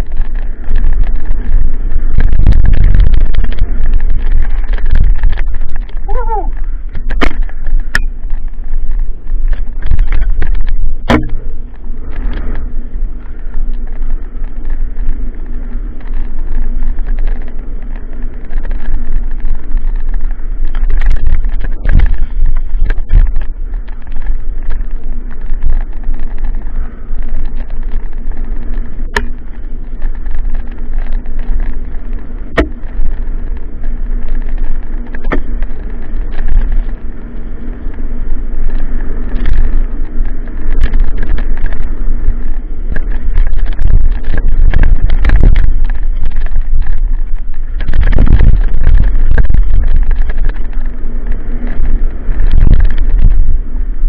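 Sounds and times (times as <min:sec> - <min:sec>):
tyre rumble on dirt: 0:00.0 - 0:54.0
wind rush on microphone: 0:00.0 - 0:54.0.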